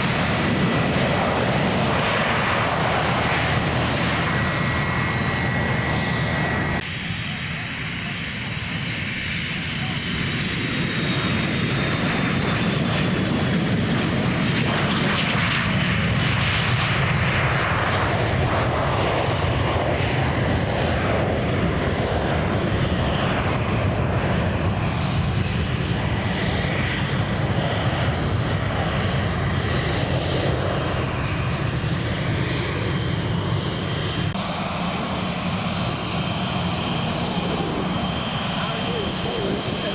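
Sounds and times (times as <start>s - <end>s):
airplane engines droning: 0.0s - 39.9s
faint high engine whine: 0.0s - 39.9s.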